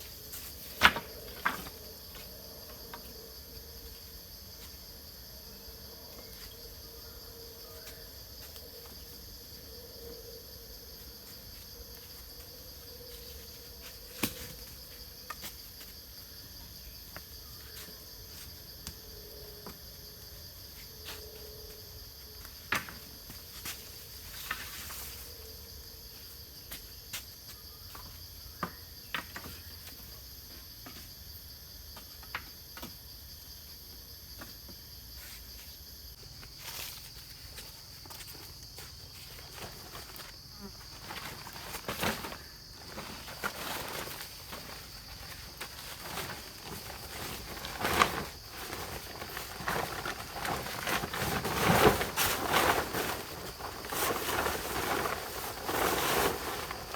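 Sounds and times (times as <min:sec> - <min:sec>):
insects chorus: 0:00.0 - 0:56.9.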